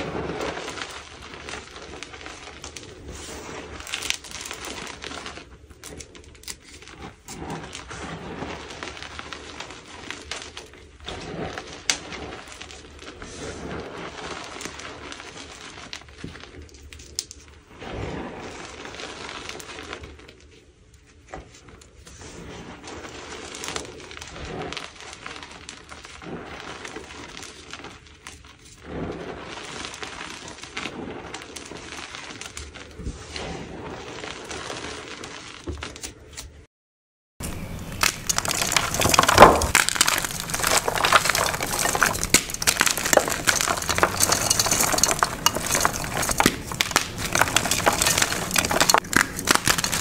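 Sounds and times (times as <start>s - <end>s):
chalk crunching and crumbling: 0.0s - 36.4s, 37.4s - 50.0s.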